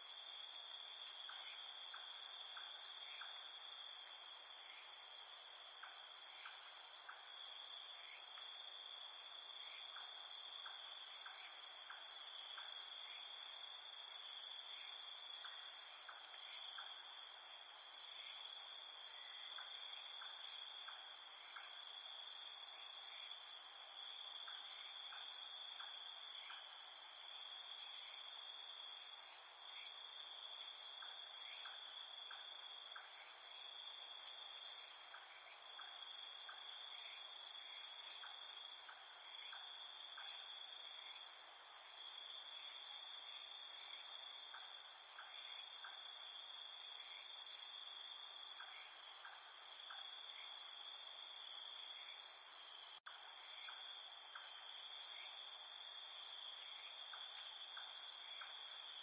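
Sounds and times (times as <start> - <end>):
lower cricket chirps: 0.0 - 59.0.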